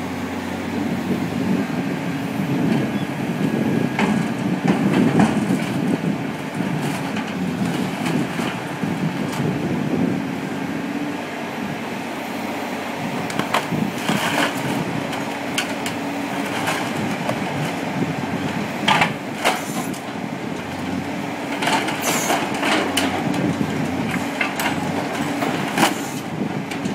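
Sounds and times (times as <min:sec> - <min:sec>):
crane humming: 0:00.0 - 0:26.9.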